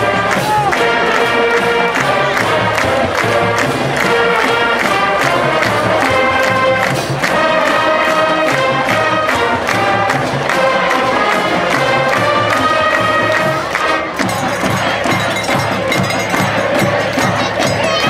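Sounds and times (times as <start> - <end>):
brass sustained chords: 0.0 - 15.9
marching drum beat: 0.0 - 18.0.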